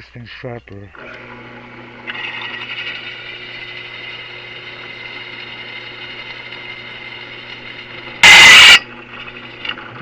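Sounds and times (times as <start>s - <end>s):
electric drill cutting: 1.0s - 10.0s.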